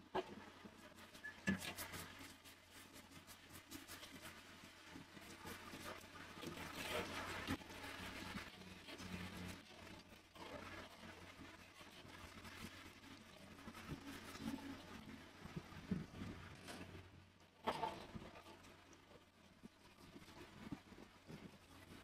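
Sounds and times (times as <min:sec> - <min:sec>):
light scraping and rubbing: 0:00.1 - 0:22.0.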